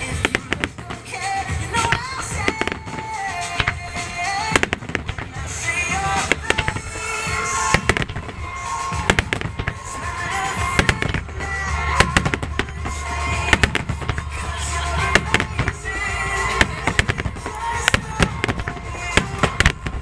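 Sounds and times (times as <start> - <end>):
fireworks bursting: 0.0 - 20.0
music playing: 0.0 - 20.0.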